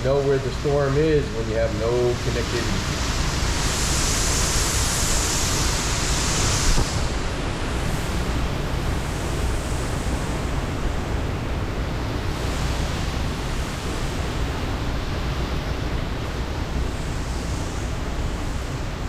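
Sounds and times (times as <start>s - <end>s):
hurricane winds blowing: 0.0s - 19.0s.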